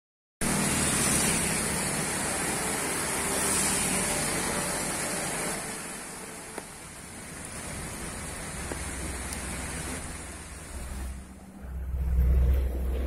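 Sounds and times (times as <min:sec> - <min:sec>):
river floodwater rushing: 0:00.5 - 0:13.0.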